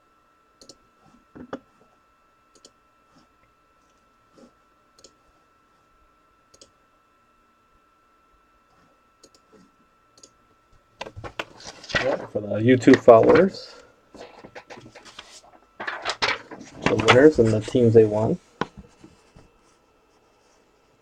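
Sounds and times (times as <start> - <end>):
faint high-pitched electrical hum: 0.0 - 21.0.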